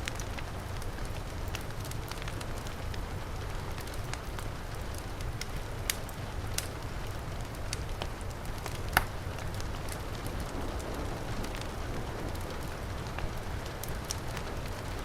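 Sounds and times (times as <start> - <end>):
heavy rain: 0.0 - 15.0
wood fire crackling and popping: 0.0 - 15.0.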